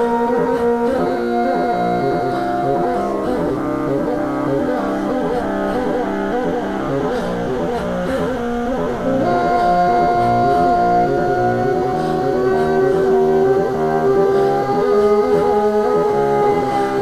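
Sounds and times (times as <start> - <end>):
processed bassoon drones and melody: 0.0 - 17.0.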